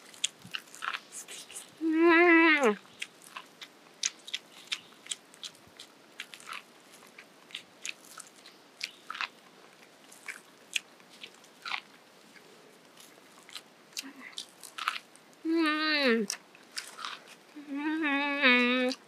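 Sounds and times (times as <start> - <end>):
crunchy chewing of corn cob: 0.0 - 1.9, 2.6 - 15.5, 16.2 - 17.7.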